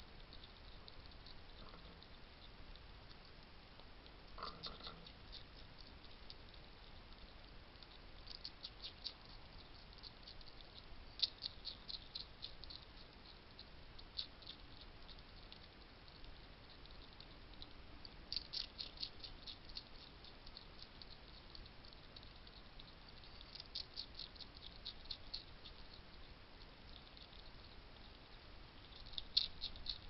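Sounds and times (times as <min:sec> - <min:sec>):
hedgehogs crunching dry food: 0:00.2 - 0:30.0.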